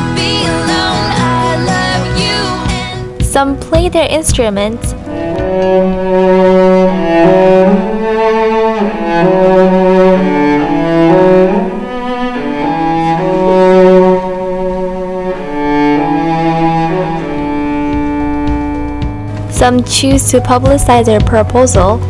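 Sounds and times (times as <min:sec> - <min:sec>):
bowed strings slow melody: 0:00.0 - 0:22.0.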